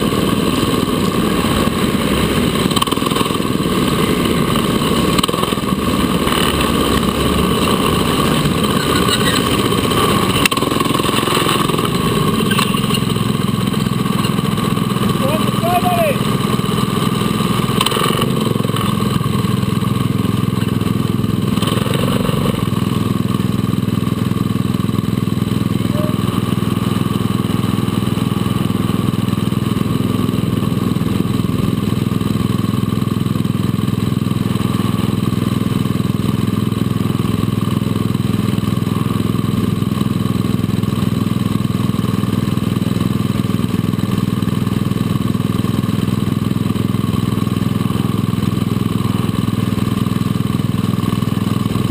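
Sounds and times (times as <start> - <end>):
go-kart engine idling: 0.0 - 51.9.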